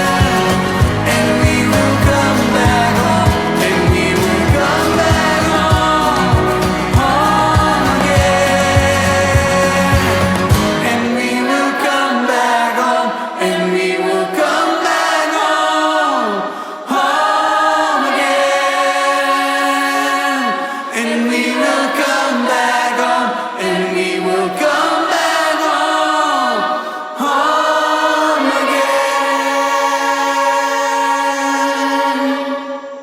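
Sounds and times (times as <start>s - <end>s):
voices singing in harmony: 0.0s - 33.0s.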